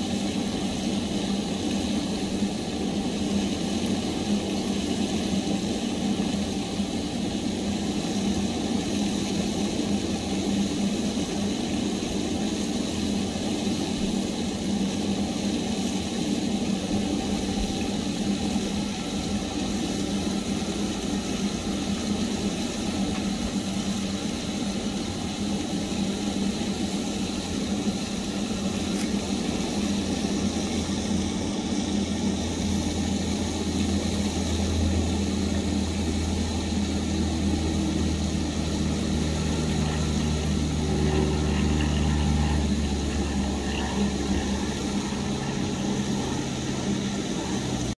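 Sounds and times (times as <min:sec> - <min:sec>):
machine humming: 0:00.0 - 0:47.9.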